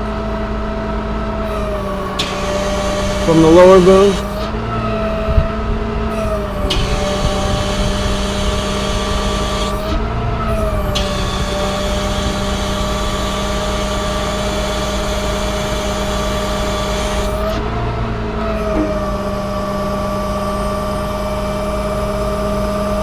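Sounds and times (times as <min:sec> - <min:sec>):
diesel engine running with whine: 0:00.0 - 0:23.0.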